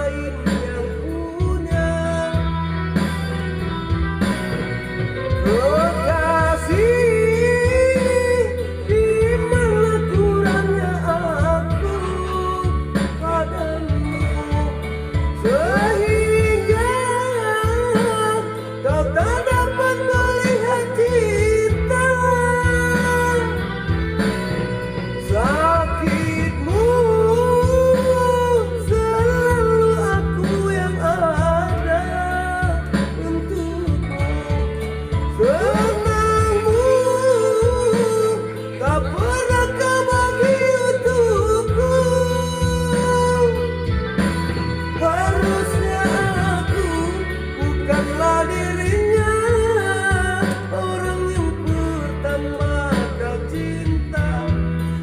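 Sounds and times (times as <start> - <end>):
backing music with guitar: 0.0 - 55.0
person singing: 0.0 - 55.0.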